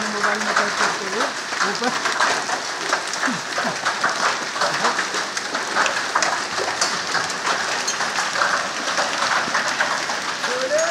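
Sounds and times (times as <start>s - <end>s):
hail and heavy rain: 0.0s - 10.9s.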